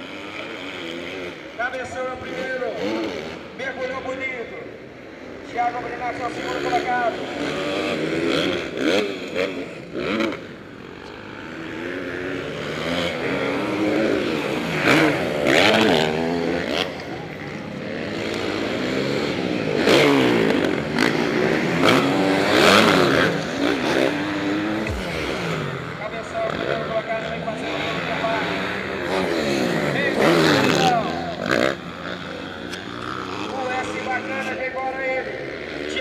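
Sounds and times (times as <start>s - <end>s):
motocross motorcycles revving: 0.0s - 36.0s.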